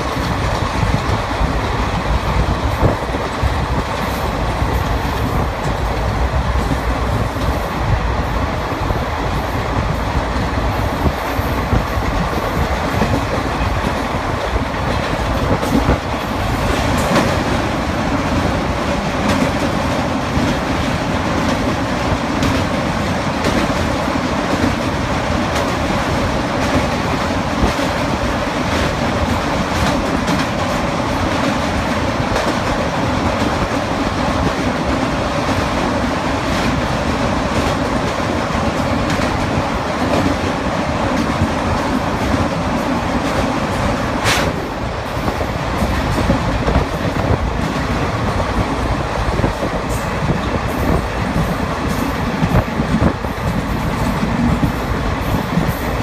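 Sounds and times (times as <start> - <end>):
clickety-clack over rail joints: 0.0 - 56.0
train wheels rumbling on rail: 0.0 - 56.0.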